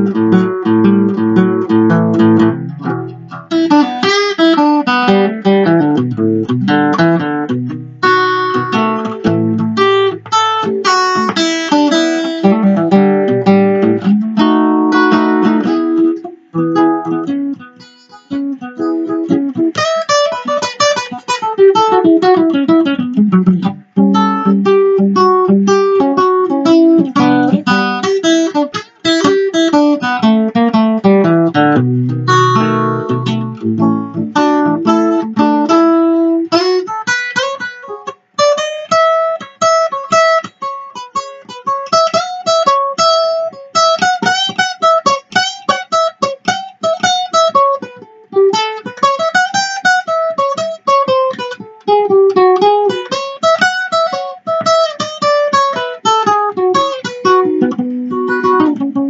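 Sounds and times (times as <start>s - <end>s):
acoustic blues guitar: 0.0s - 59.0s.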